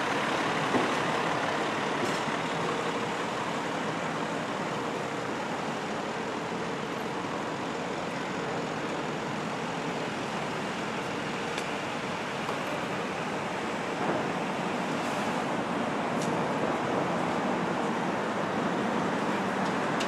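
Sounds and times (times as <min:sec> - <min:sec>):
city traffic noise: 0:00.0 - 0:20.0.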